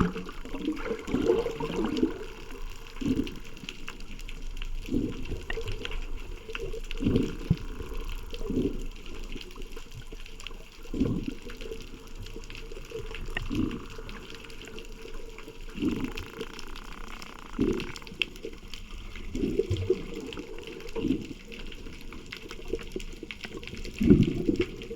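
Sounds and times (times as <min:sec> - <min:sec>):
low underwater rush: 0:00.0 - 0:24.9
regulator bubbles gurgling: 0:00.0 - 0:24.9.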